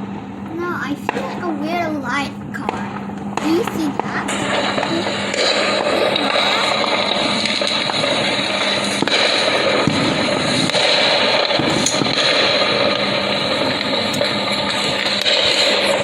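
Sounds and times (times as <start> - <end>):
fireworks crackling: 0.5 - 16.0
sharp firework pops: 2.6 - 16.0.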